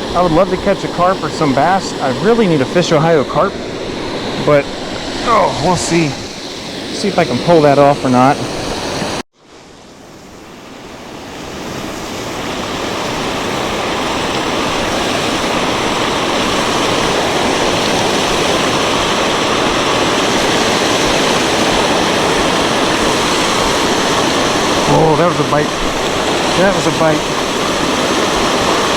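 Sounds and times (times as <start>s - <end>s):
waterfall roaring: 0.0s - 9.2s, 12.3s - 28.9s.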